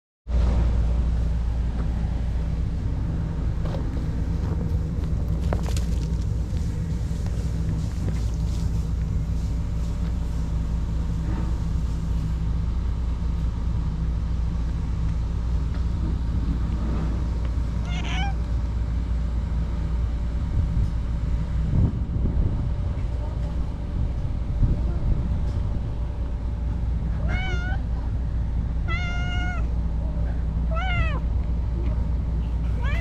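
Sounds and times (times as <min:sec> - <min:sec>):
low rumble and hum: 0:00.3 - 0:33.0.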